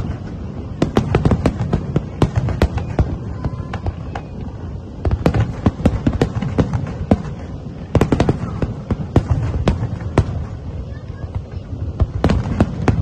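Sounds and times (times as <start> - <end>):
continuous low rumble: 0.0 - 13.0
fireworks bursting with sharp bangs: 0.0 - 13.0.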